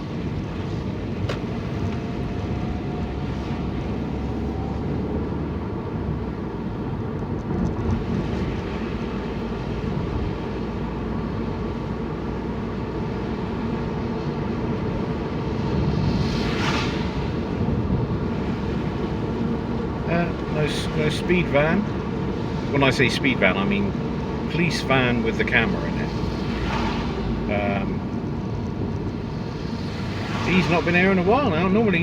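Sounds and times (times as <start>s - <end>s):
road and wind rumble: 0.0s - 32.0s.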